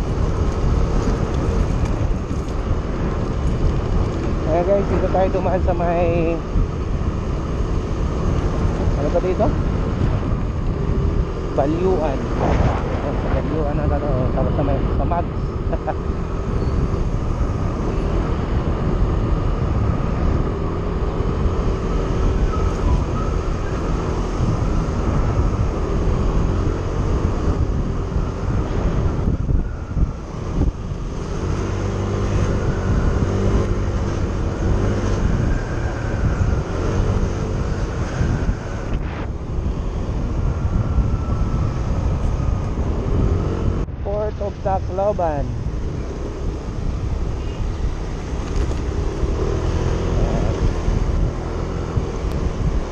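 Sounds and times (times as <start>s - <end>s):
road rumble: 0.0s - 52.9s
wind on microphone: 0.0s - 52.9s.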